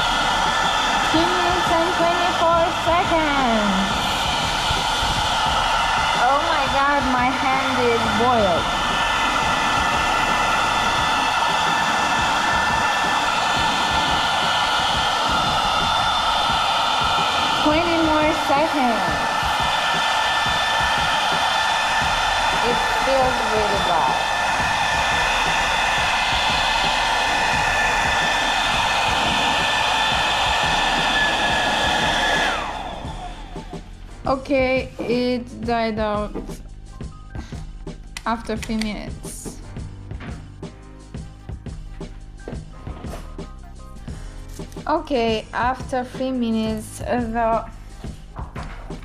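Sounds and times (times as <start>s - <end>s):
hair dryer running: 0.0s - 36.7s, 37.4s - 40.5s, 44.1s - 49.0s.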